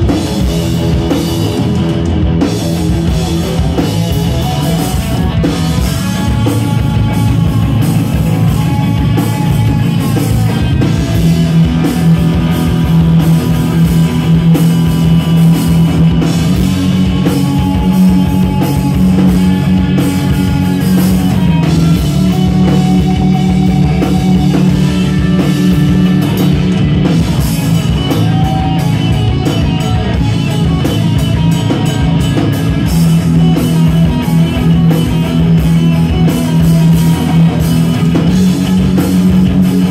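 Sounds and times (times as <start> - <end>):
bass: 0.0 - 39.9
drum kit: 0.0 - 39.9
electric guitars: 0.0 - 39.9.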